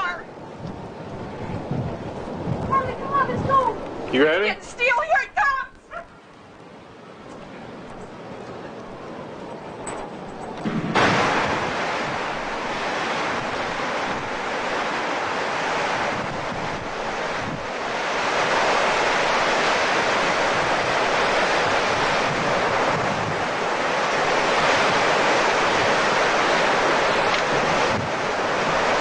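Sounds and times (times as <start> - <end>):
strong wind battering microphone: 0.0 - 29.0.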